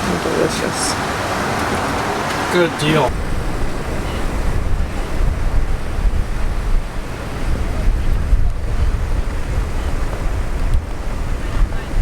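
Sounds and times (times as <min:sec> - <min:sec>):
ocean surf washing: 0:00.0 - 0:12.0
wind blowing across microphone: 0:00.0 - 0:12.0.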